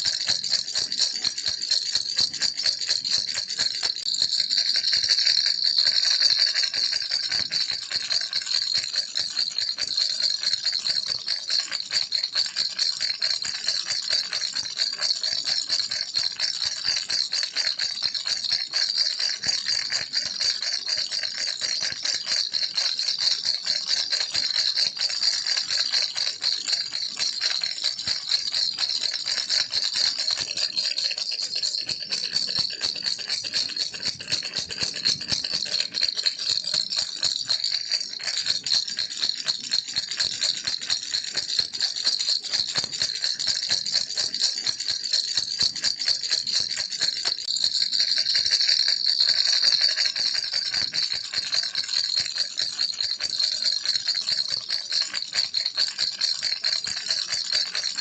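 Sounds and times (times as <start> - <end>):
baby rattle shaking: 0.0 - 18.7, 19.4 - 55.8.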